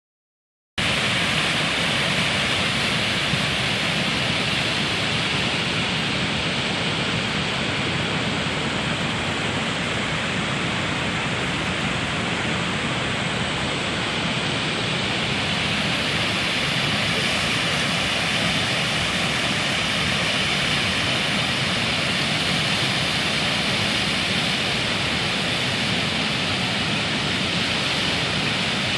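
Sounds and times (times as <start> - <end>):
floodwater rushing over a dam: 0.8 - 28.9.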